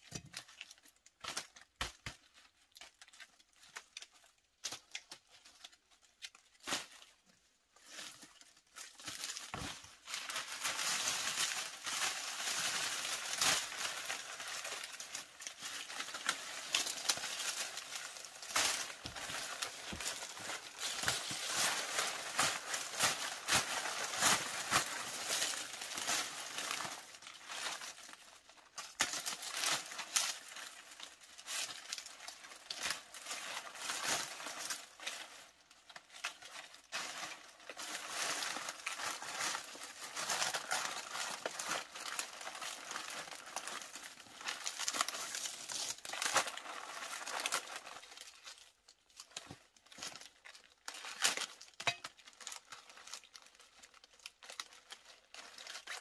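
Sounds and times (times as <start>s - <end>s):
dry palm leaves rustling: 3.6s - 48.6s.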